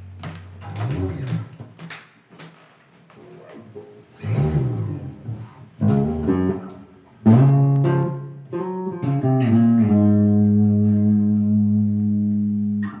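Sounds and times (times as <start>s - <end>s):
electric bass guitar notes: 0.0s - 1.7s, 4.2s - 13.0s.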